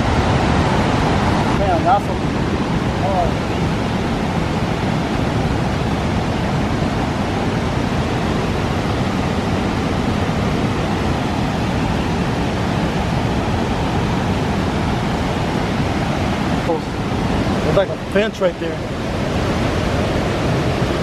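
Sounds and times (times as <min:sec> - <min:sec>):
river water rushing over dam: 0:00.0 - 0:21.0.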